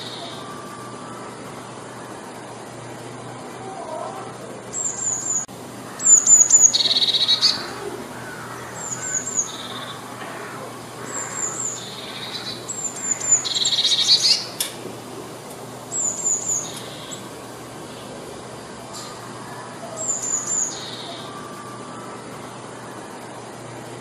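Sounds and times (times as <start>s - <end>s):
blue tit singing high notes: 0.0s - 2.4s, 3.7s - 23.1s.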